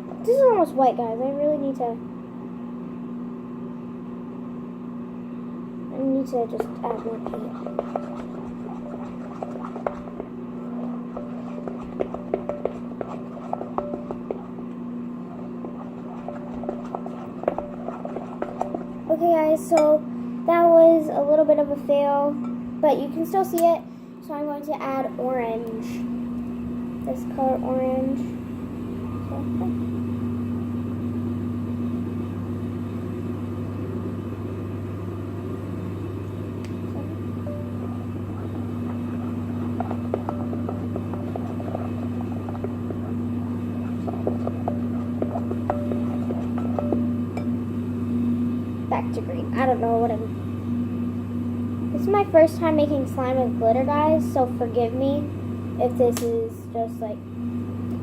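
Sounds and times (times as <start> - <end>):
low hum: 2.0 - 20.6, 25.0 - 58.0.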